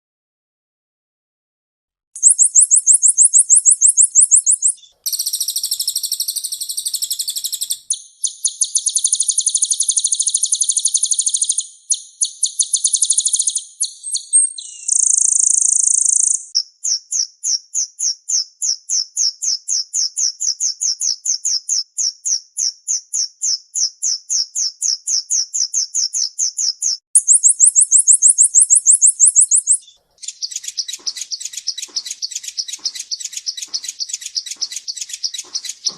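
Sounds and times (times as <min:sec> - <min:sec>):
bird singing rapid high trills: 0:02.2 - 0:35.9.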